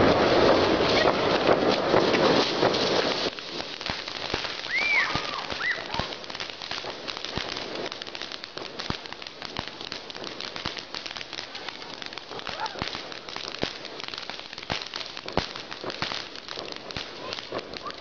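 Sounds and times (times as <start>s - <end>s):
firework crackling hiss: 0.0s - 18.0s
sharp firework pops: 0.0s - 18.0s.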